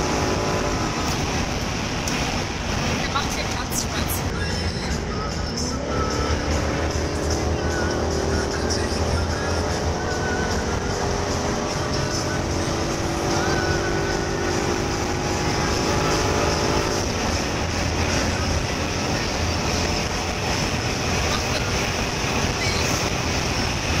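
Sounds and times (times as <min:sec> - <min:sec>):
car engine at high revs: 0:00.0 - 0:24.0
wind and road noise: 0:00.0 - 0:24.0.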